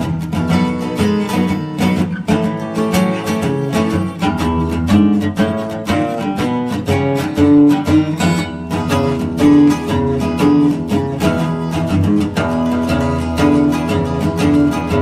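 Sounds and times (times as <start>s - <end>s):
acoustic guitar picking and strumming: 0.0s - 15.0s.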